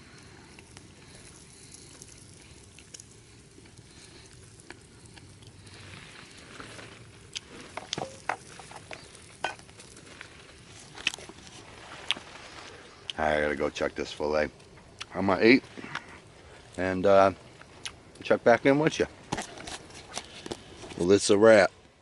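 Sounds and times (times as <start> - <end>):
sharp pops and crackles: 0.0 - 22.0
steak sizzling over campfire: 0.0 - 22.0.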